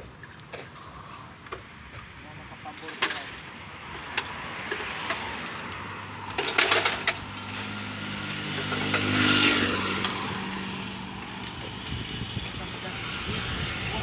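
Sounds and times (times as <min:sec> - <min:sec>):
vehicle passing: 0:02.1 - 0:14.0.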